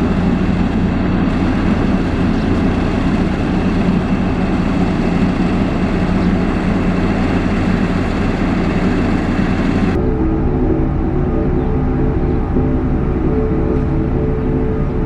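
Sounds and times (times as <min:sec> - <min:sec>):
diesel engine under load: 0:00.0 - 0:15.0
dull engine sound: 0:00.0 - 0:15.0.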